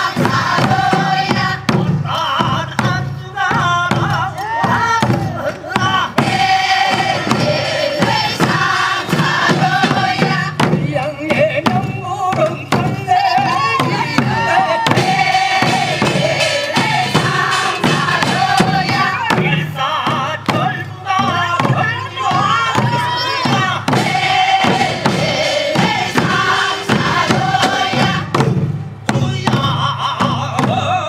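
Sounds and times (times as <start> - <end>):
barrel drum strokes: 0.0 - 30.8
group of voices singing: 0.0 - 31.0.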